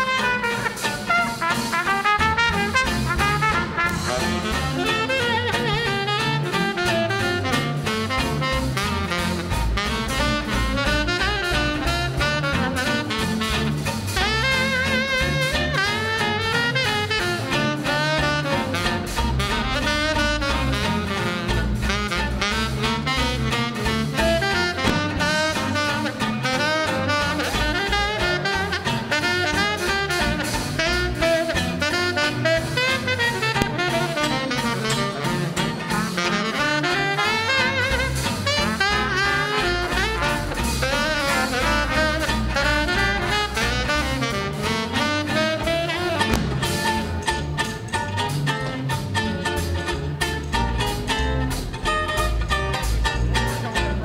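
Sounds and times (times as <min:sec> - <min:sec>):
drums keeping a beat: 0:00.0 - 0:54.0
saxophone melody: 0:00.0 - 0:54.0
upright double bass: 0:00.0 - 0:54.0.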